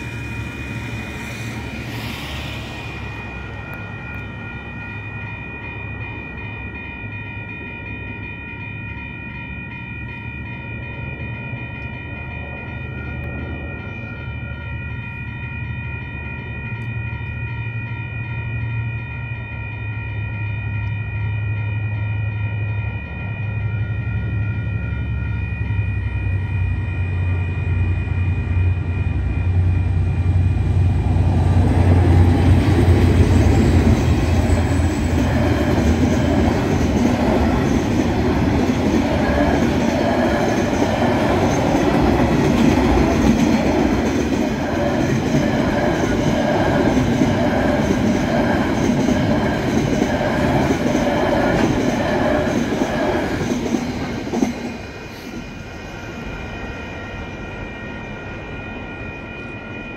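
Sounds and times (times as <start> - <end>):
level crossing bells ringing: 0.0 - 55.0
diesel locomotive engine rumble: 0.0 - 59.9.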